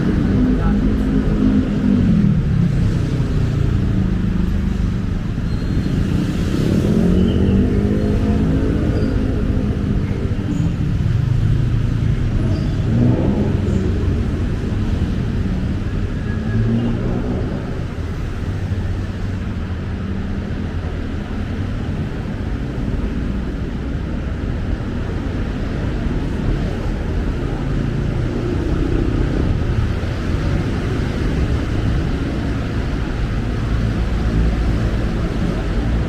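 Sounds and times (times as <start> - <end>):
low traffic rumble: 0.0 - 36.0
vehicle engines passing and idling: 0.0 - 36.0.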